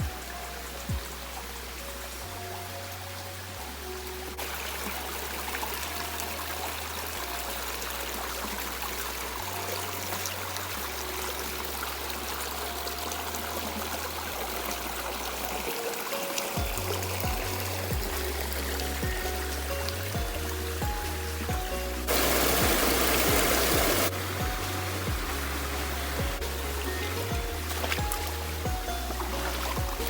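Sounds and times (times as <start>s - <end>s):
background music bass notes: 0.0s - 30.0s
water rushing at a waterfall: 0.0s - 30.0s.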